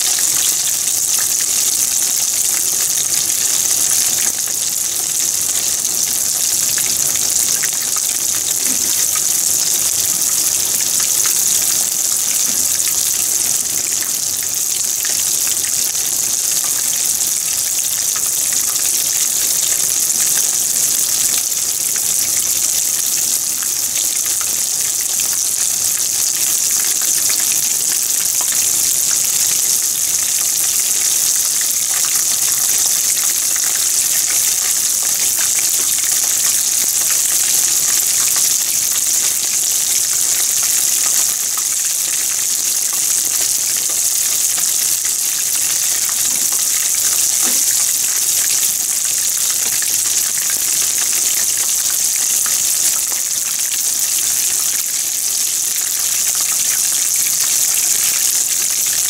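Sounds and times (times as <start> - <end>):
food deep-frying in hot oil: 0.0 - 59.0.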